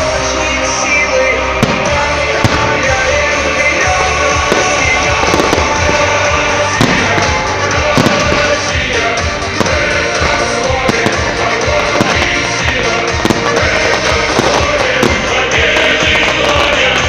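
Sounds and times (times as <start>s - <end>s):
loud music: 0.0s - 17.0s
fireworks bangs: 1.5s - 17.0s.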